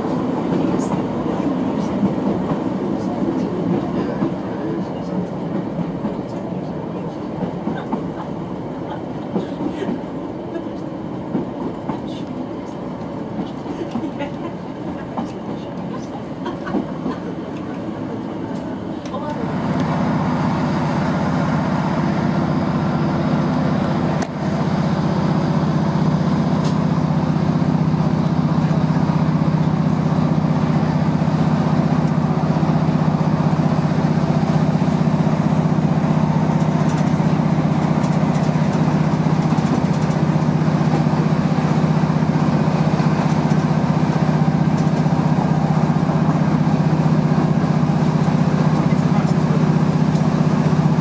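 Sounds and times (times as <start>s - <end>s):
train engine drone: 0.0s - 51.0s
wheel and rail noise: 0.0s - 51.0s.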